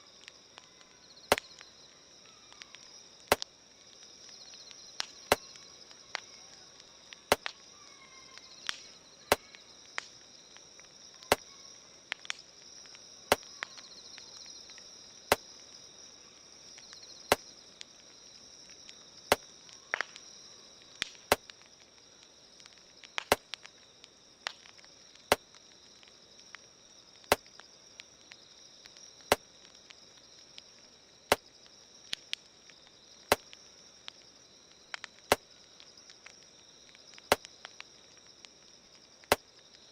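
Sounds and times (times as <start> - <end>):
campfire crackling: 0.0 - 39.9
insects chirring: 0.0 - 39.9.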